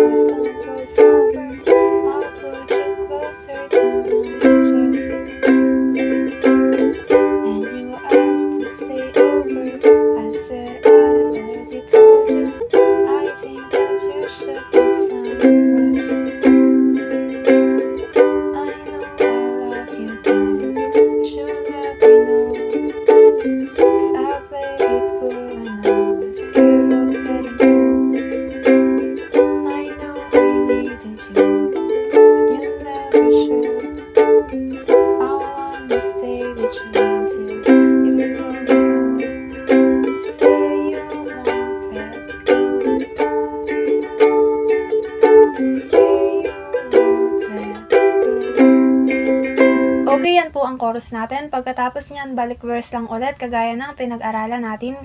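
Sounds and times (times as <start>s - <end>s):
ukulele strumming chords: 0.0s - 50.5s.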